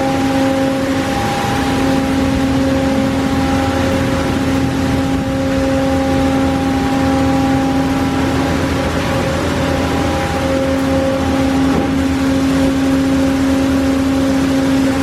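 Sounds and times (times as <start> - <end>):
car wash machine hum: 0.0 - 15.0.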